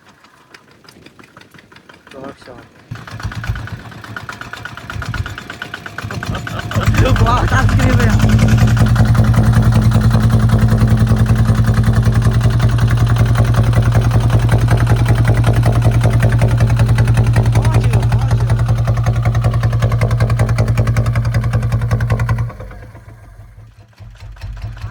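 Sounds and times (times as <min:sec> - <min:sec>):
tractor diesel engine chugging: 0:00.1 - 0:24.9.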